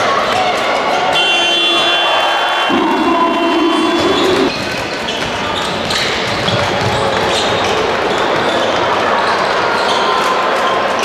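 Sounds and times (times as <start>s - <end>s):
indoor crowd noise: 0.0s - 11.0s.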